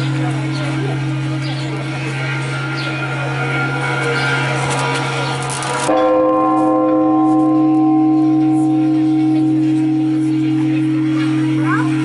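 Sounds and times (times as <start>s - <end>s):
large church bell ringing: 0.0s - 12.0s.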